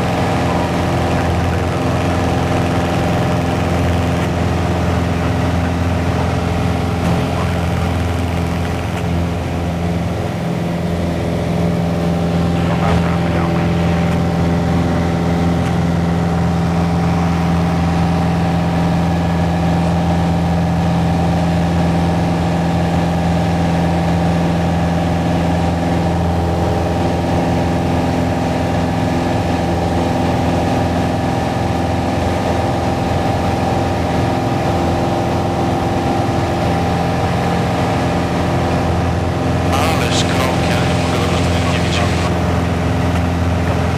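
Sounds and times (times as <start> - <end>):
airplane engine and propeller droning: 0.0 - 43.9.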